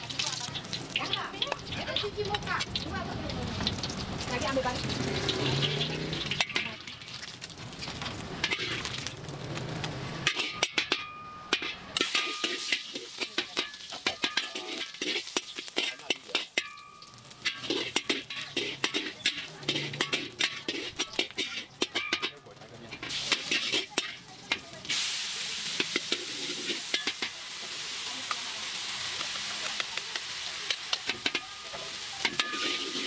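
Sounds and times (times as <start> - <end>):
food sizzling in hot oil: 0.0 - 33.0
metal spatula scraping a wok: 0.1 - 33.0.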